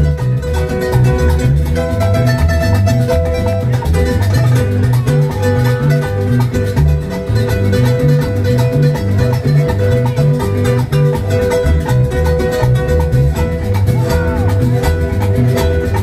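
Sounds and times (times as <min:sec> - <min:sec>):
acoustic guitar strumming: 0:00.0 - 0:16.0
electric bass line: 0:00.0 - 0:16.0
hand drum beat: 0:00.0 - 0:16.0.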